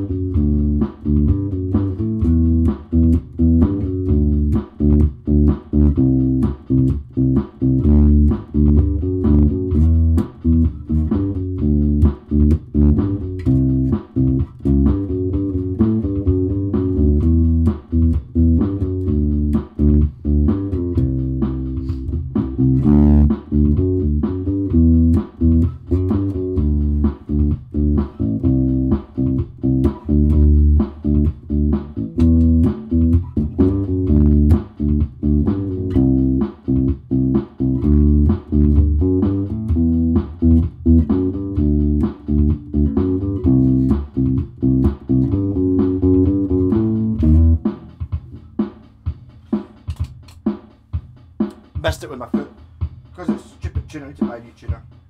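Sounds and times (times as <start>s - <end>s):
electric bass riff: 0.0s - 50.6s.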